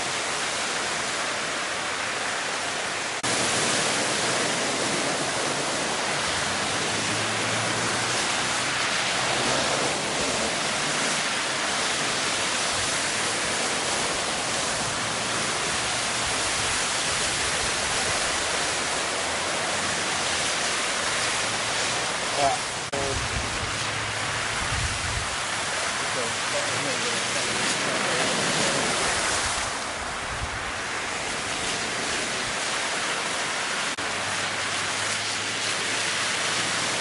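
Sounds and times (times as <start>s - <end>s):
heavy rain: 0.0s - 37.0s
running storm water: 0.0s - 37.0s.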